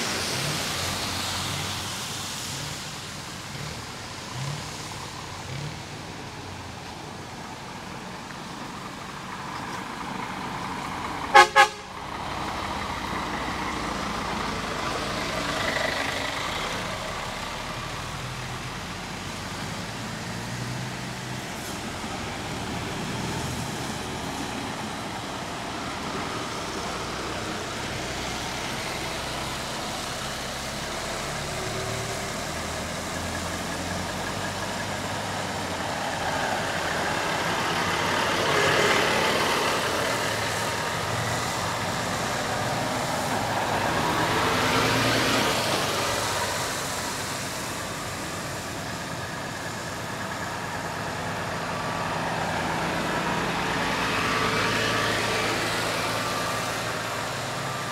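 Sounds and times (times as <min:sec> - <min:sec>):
steady traffic noise: 0:00.0 - 0:57.9
trucks driving past: 0:00.0 - 0:57.9.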